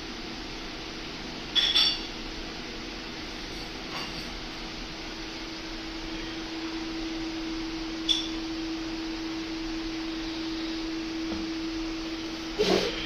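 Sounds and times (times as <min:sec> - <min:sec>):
aquarium filter humming: 0:00.0 - 0:13.0.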